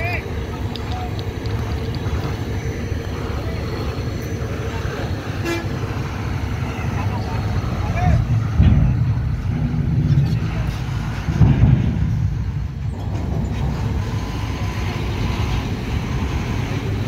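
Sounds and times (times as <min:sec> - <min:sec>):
vehicle engine low rumble: 0:00.0 - 0:17.0.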